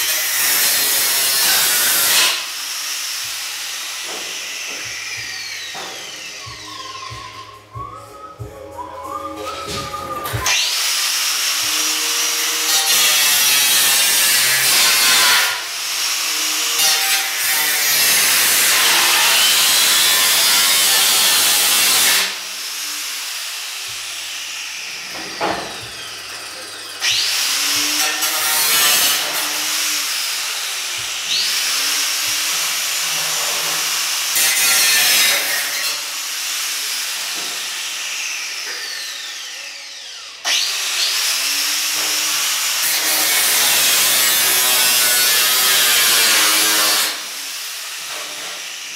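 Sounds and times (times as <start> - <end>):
angle grinder cutting sheet steel: 0.0 - 7.8, 9.1 - 48.9.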